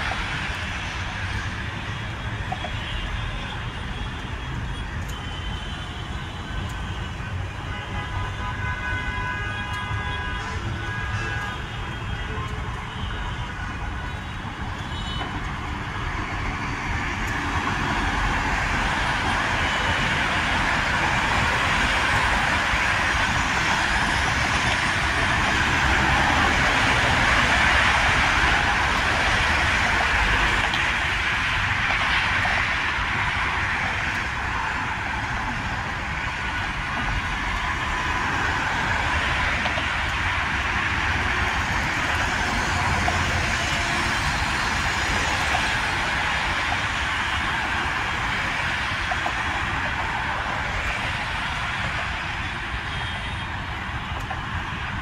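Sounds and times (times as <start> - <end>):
traffic passing at speed: 0.0 - 55.0
tyre noise on road: 0.0 - 55.0.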